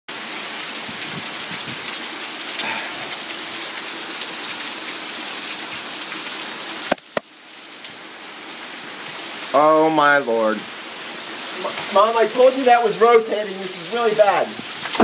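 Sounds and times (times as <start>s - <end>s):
heavy rain pouring: 0.1s - 15.0s.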